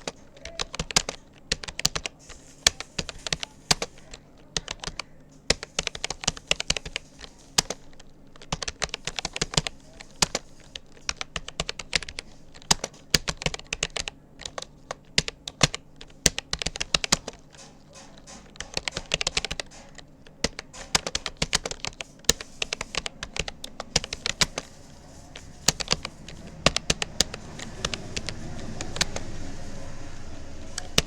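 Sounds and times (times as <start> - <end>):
keyboard typing clicks: 0.0 - 31.0
low background noise: 0.0 - 31.0.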